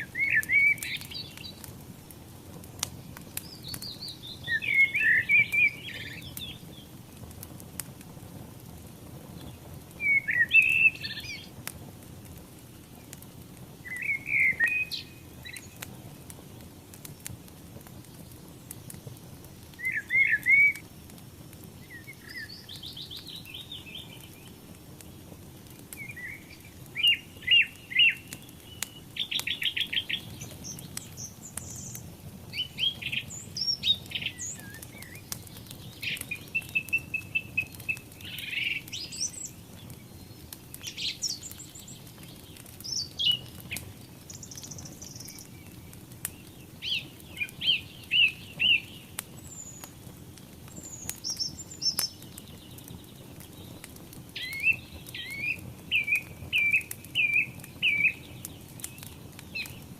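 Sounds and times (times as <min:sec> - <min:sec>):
songbirds chirping and trilling: 0:00.0 - 0:07.1, 0:08.8 - 0:11.7, 0:12.4 - 0:59.9
wood fire crackling: 0:00.0 - 0:59.9.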